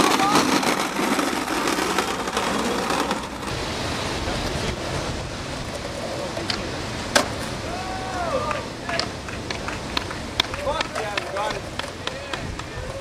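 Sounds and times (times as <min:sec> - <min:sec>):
skateboard clack: 0:00.0 - 0:05.0, 0:05.6 - 0:13.0
surf: 0:00.0 - 0:13.0
wind: 0:00.0 - 0:13.0.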